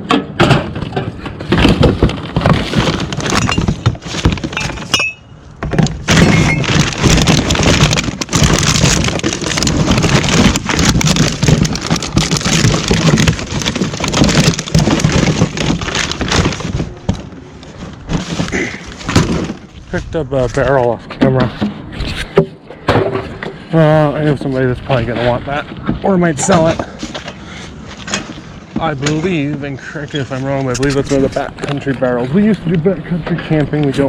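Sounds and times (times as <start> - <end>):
hard objects clattering and knocking: 0.0 - 20.0, 20.6 - 24.0, 24.9 - 29.8.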